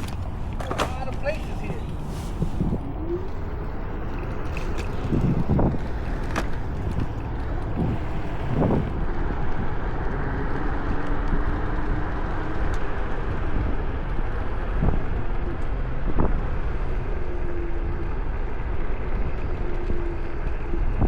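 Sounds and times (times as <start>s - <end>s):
hub motor whine: 0.0s - 21.0s
scooter tyre noise: 0.0s - 21.0s
wind rushing over microphone: 0.0s - 21.0s.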